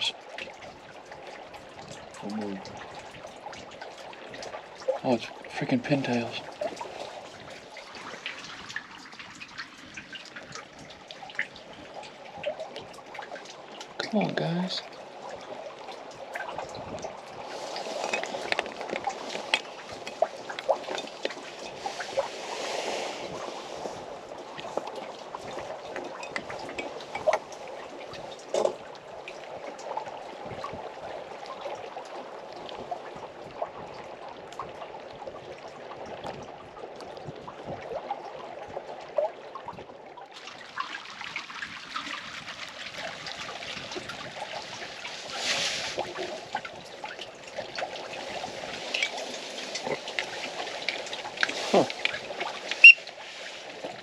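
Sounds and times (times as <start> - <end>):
small waves lapping: 0.0 - 54.0
water splashes and drips: 0.0 - 54.0.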